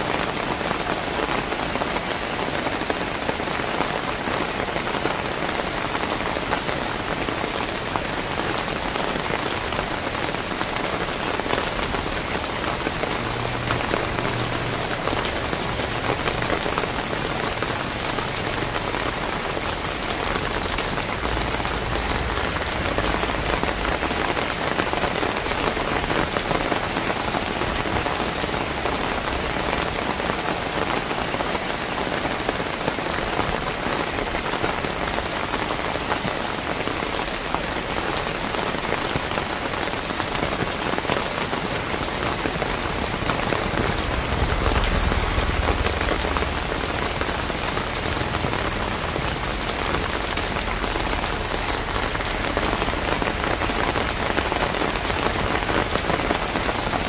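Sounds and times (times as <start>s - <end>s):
rain on wet pavement: 0.0s - 57.0s.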